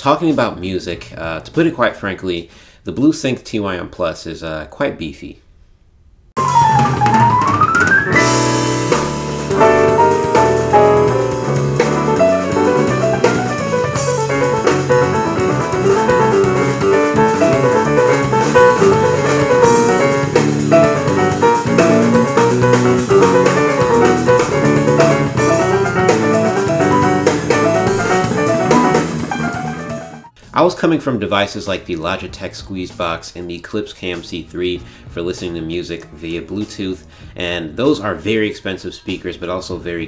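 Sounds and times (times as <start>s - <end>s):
jazzy hip-hop music: 6.4s - 39.4s.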